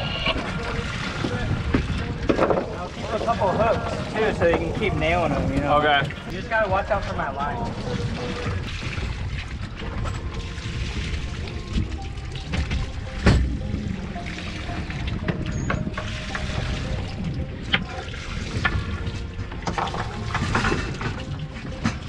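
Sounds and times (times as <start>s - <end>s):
music: 0.0s - 22.0s
water sloshing against boat hull: 0.0s - 22.0s
fish knocking and clattering: 0.3s - 13.8s, 14.8s - 22.0s.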